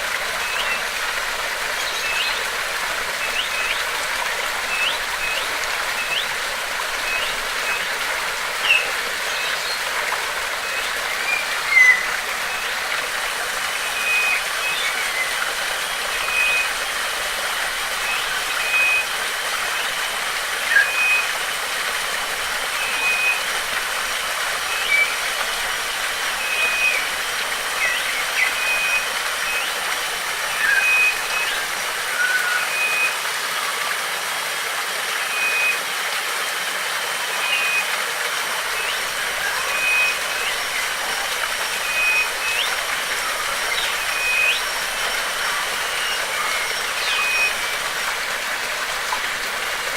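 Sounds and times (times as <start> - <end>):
waterfall rushing: 0.0 - 49.9
birds chirping and whistling: 0.3 - 1.1, 1.7 - 33.1, 37.3 - 37.9, 38.7 - 48.8.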